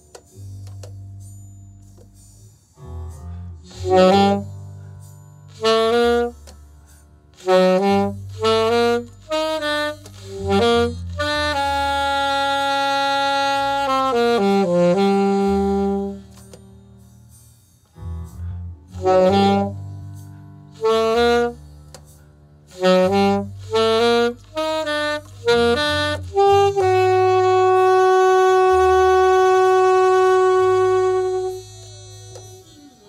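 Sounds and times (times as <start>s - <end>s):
saxophone melody: 2.8s - 6.6s, 7.3s - 17.0s, 17.9s - 33.0s.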